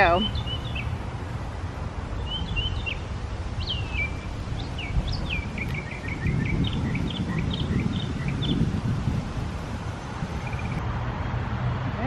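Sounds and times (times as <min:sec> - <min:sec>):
songbird chirping: 0:00.0 - 0:10.8.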